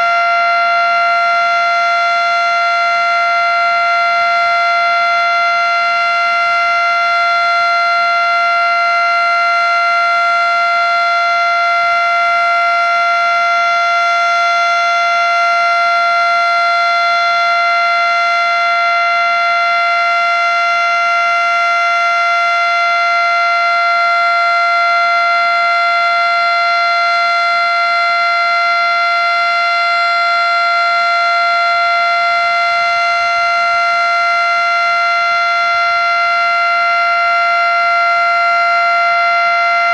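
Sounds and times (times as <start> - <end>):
loud steady warning siren: 0.0 - 39.9.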